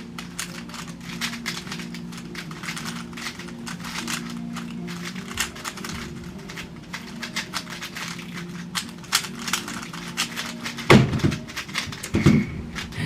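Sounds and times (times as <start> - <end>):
puzzle cube clicking: 0.0 - 13.0.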